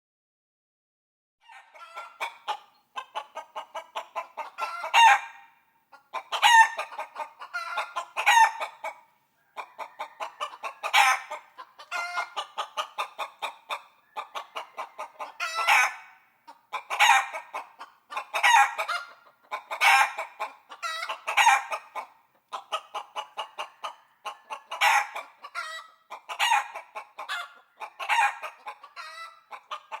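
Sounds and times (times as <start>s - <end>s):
chicken clucking and squawking: 1.4s - 30.0s.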